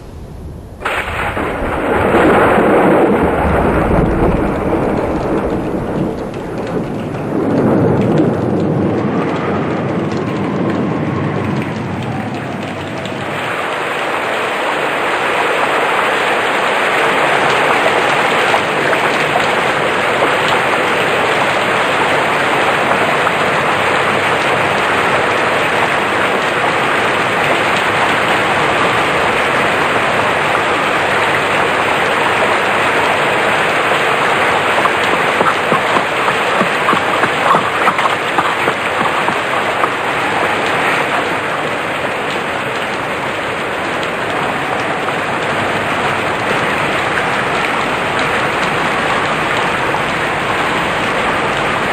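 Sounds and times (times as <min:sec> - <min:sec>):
heavy rain pouring: 0:00.0 - 0:51.9
sharp rain spattering: 0:00.0 - 0:51.9.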